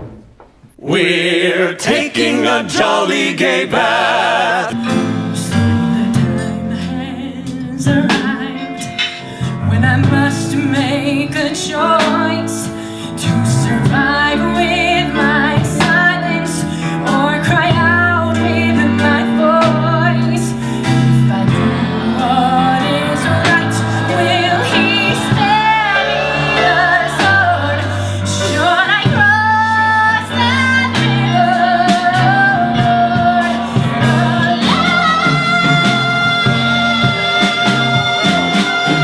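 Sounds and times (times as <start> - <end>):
instrumental accompaniment: 2.4 - 39.0
woman singing: 4.8 - 39.0.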